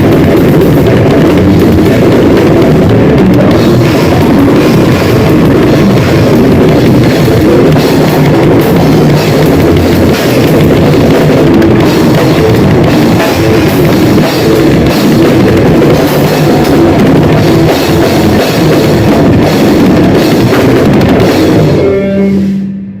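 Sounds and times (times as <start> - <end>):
grindcore band playing: 0.0 - 22.8.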